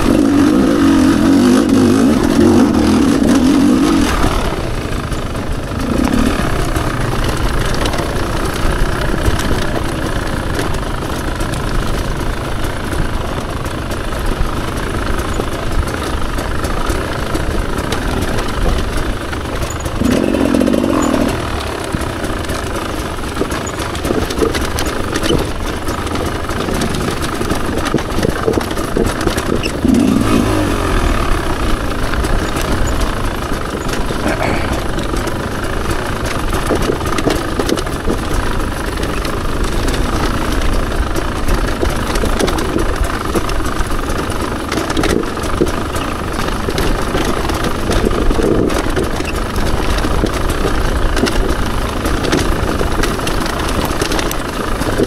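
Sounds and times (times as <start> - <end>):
two-stroke motorcycle engine running: 0.0 - 55.0.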